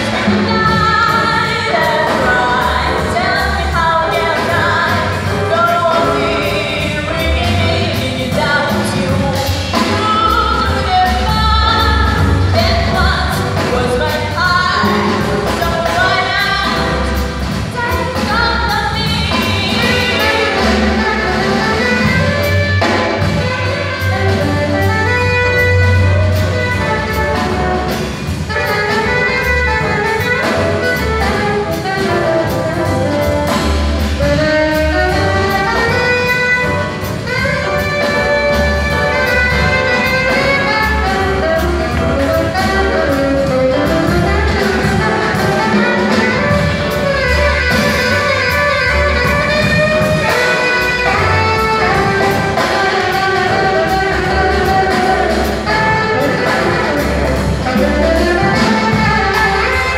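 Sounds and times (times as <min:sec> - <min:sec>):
drum kit: 0:00.0 - 0:59.9
saxophones playing melody: 0:00.0 - 0:59.9.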